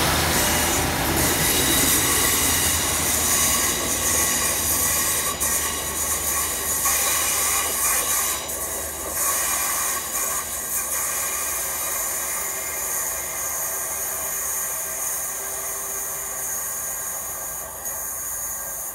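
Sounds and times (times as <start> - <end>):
diesel train pulling away: 0.0 - 18.9.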